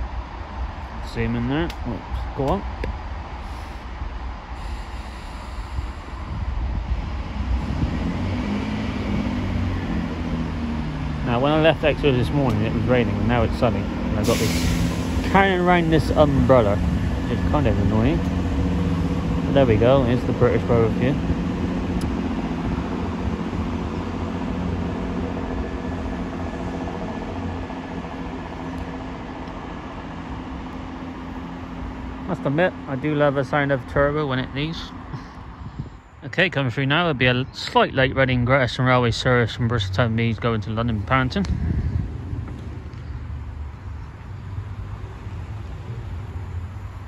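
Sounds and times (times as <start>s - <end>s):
diesel train engines rumbling: 0.0s - 47.0s.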